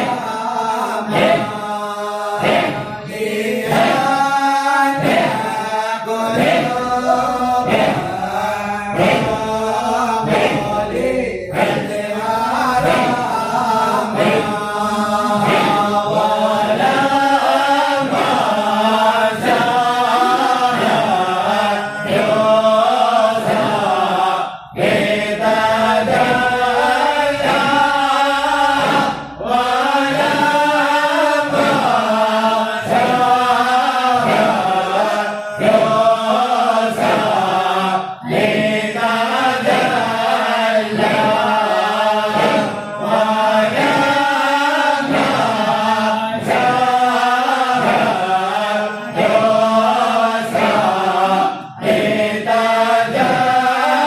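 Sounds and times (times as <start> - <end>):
melodic vocal chant: 0.0 - 54.0.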